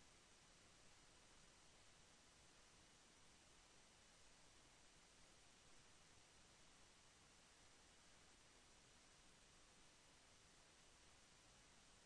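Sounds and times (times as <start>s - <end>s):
faint recording hiss: 0.0s - 12.0s.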